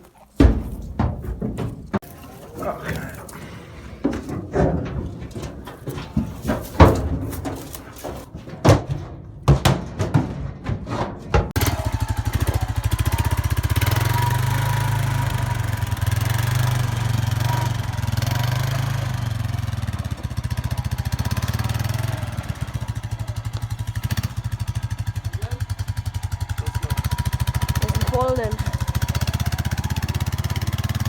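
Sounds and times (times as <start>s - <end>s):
vehicle engine running: 0.4s - 8.3s, 11.5s - 31.0s.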